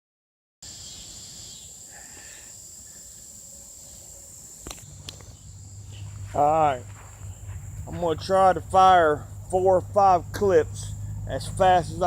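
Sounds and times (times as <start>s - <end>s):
crickets trilling: 0.6s - 12.0s.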